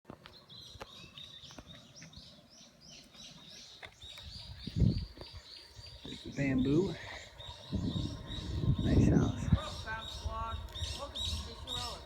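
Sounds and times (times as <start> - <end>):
bird chirping: 0.2 - 12.0.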